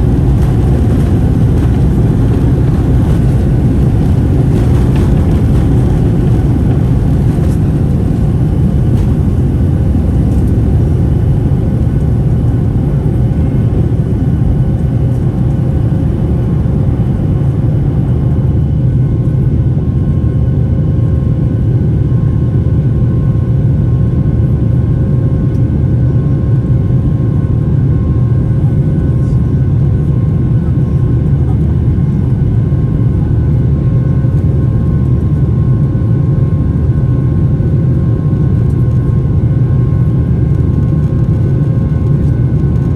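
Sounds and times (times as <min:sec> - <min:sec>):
jet engine roar in cabin: 0:00.0 - 0:42.9.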